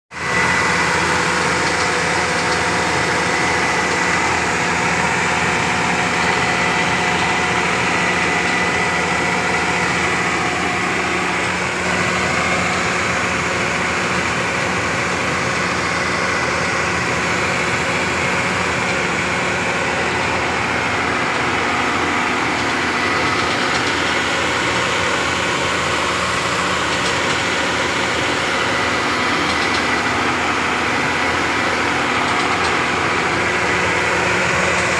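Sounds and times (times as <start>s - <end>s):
heavy machinery engine running: 0.1s - 34.9s.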